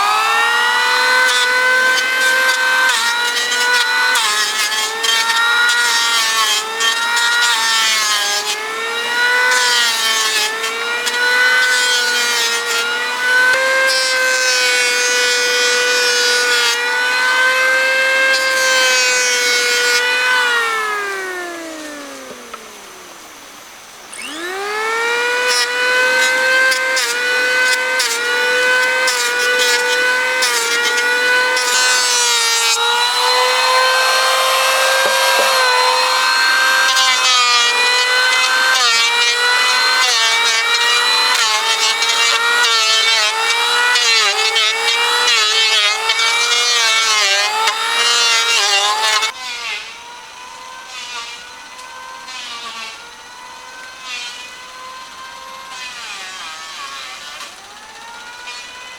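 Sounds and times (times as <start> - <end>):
power tool whining: 0.0 - 58.9
wood being cut rasp: 0.0 - 58.9.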